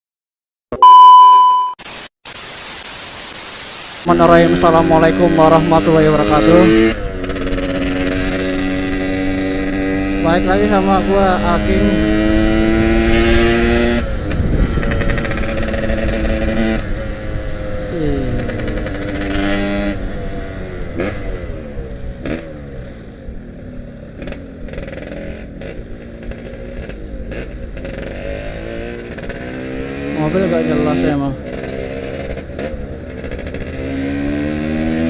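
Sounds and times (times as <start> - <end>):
motorcycle engine revving: 4.0 - 35.0.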